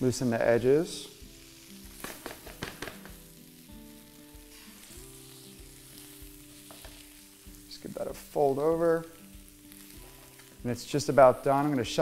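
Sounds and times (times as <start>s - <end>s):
omelet sizzling in a pan: 0.0s - 12.0s.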